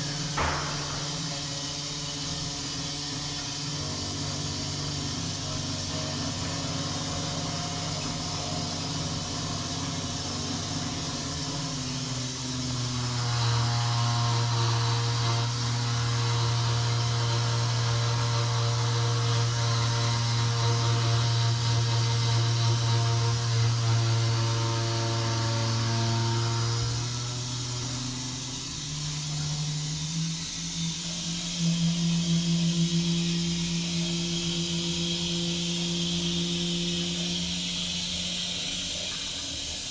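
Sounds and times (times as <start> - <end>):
toilet humming drone: 0.0 - 39.9.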